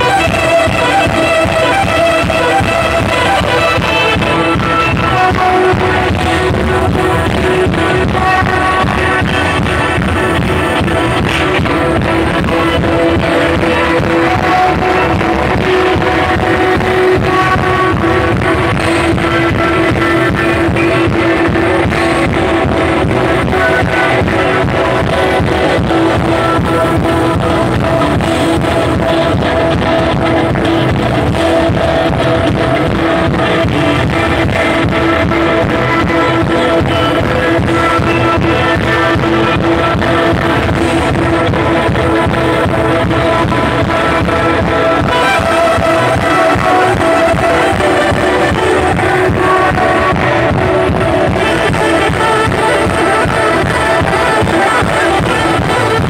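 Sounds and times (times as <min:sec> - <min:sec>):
loud music with steady beat: 0:00.0 - 0:56.0.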